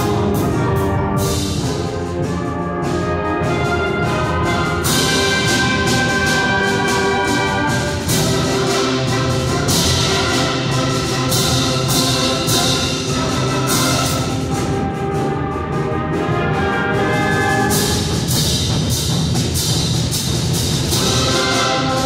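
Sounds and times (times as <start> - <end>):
percussion strikes: 0.0 - 22.0
symphonic band holding chords: 0.0 - 22.0.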